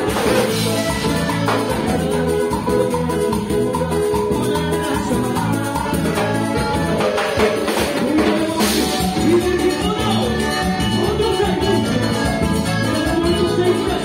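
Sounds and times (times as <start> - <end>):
band playing over a pa: 0.0 - 14.0
man singing into a microphone: 0.0 - 14.0.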